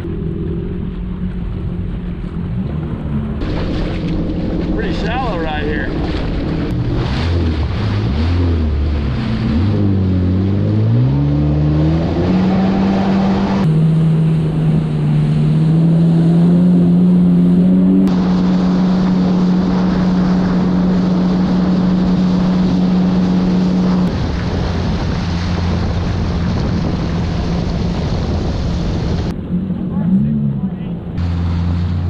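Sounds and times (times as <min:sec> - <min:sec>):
wind on microphone: 0:00.0 - 0:29.8
jet ski engine: 0:00.0 - 0:32.0
rushing water: 0:00.0 - 0:32.0.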